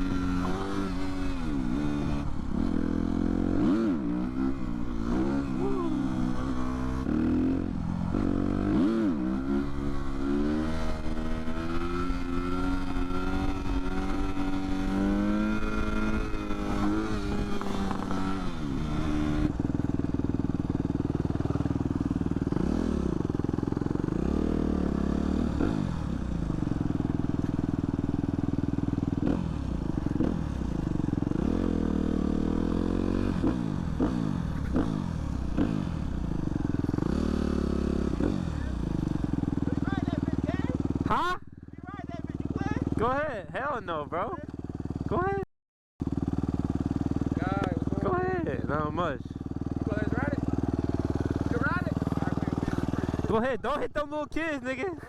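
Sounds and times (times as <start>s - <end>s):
motorcycle engine accelerating: 0.0s - 45.4s, 46.0s - 55.0s.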